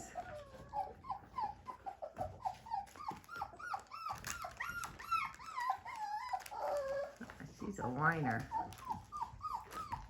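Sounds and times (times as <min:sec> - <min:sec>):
puppy whining: 0:00.0 - 0:10.0.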